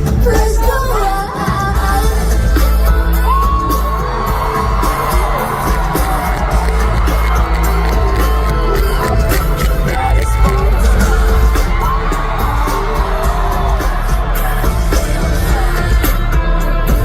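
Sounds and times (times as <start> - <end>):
live pop music with heavy bass: 0.0 - 17.0
crowd cheering and whooping: 2.2 - 17.0.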